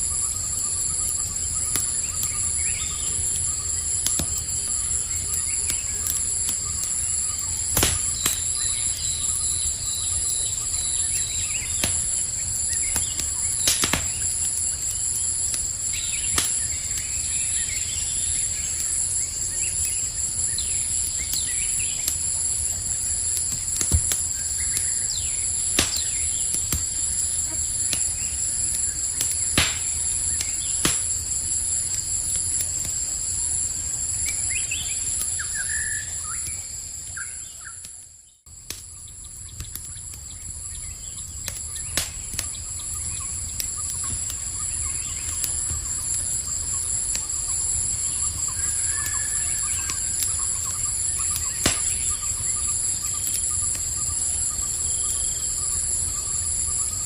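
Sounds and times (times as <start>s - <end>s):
campfire crackling and popping: 0.0s - 57.0s
trilling insect chorus: 0.0s - 57.0s.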